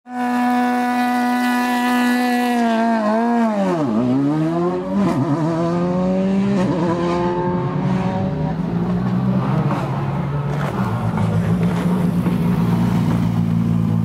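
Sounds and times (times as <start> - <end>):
rally car engine revving: 0.1 - 14.0.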